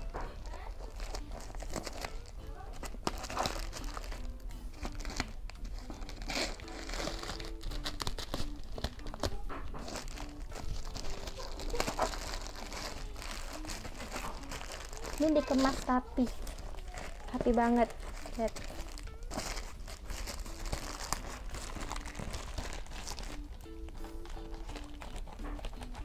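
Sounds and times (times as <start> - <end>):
parcel wrapping crinkling and tearing: 0.0 - 26.0
soft background music: 0.0 - 26.0.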